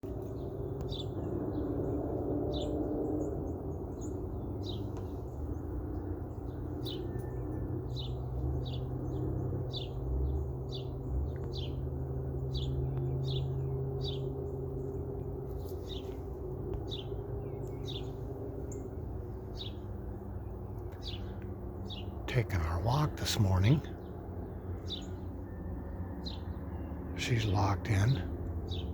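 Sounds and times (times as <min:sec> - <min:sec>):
steady low rumble: 0:00.0 - 0:28.9
bird chirping: 0:00.1 - 0:28.9.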